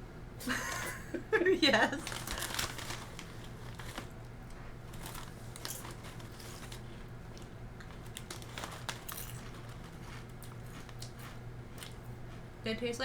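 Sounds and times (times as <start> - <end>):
snack bag crinkling: 1.9 - 12.4
crunching chips: 2.0 - 12.4.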